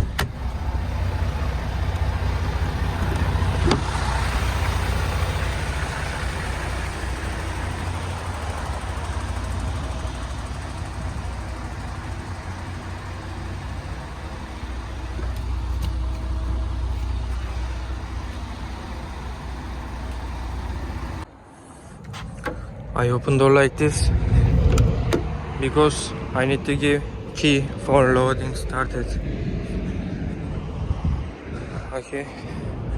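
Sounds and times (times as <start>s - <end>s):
diesel truck engine rumbling: 0.0s - 32.9s.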